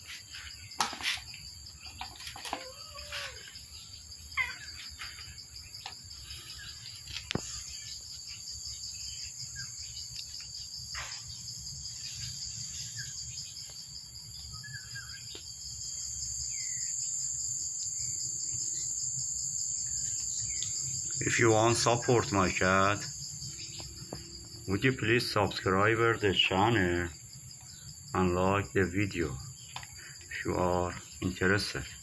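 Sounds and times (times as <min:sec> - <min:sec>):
insect chorus trilling: 0:00.0 - 0:32.0.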